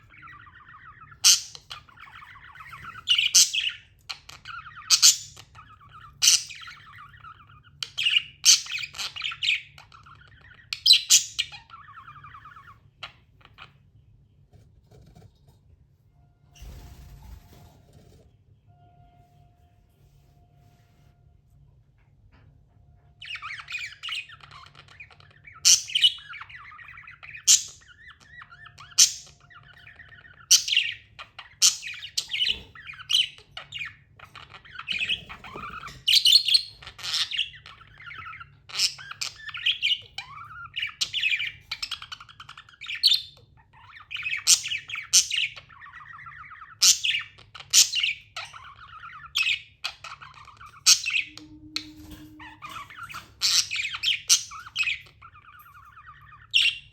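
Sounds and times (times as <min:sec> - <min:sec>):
budgerigar chirps and squawks: 0:00.0 - 0:13.8, 0:23.2 - 0:56.9.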